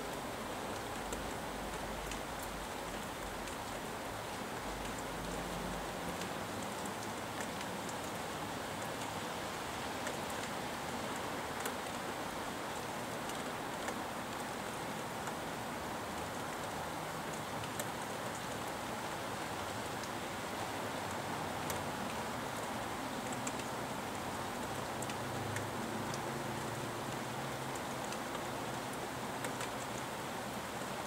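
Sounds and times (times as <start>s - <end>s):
steady rain falling: 0.0s - 31.0s
sharp water drips: 0.1s - 31.0s.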